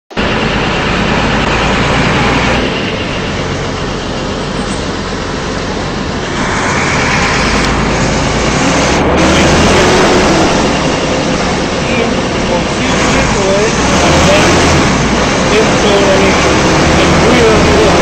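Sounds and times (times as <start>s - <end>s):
bus engine idling: 0.1s - 18.0s
traffic rumble: 0.1s - 18.0s.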